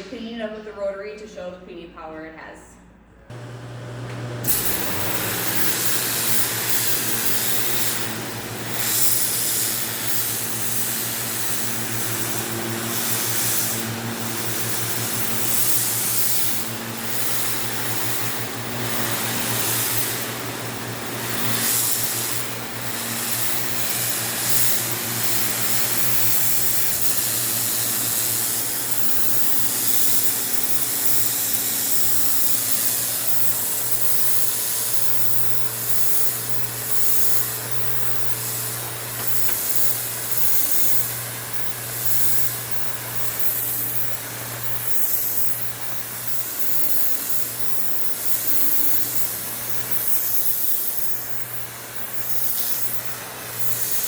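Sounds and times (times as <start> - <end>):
machine low hum: 3.0 - 54.0
pressure washer spray hissing: 4.4 - 54.0.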